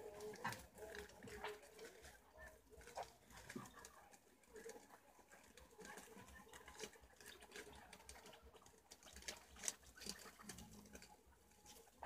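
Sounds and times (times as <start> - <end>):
animals chewing leafy greens: 0.0 - 12.0.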